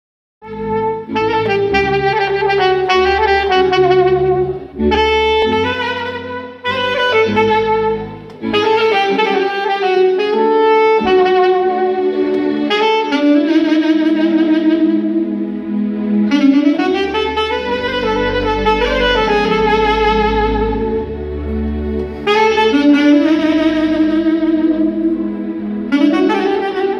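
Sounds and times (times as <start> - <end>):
backing accompaniment with bass: 0.4 - 26.9
saxophone melody with vibrato: 0.4 - 26.9.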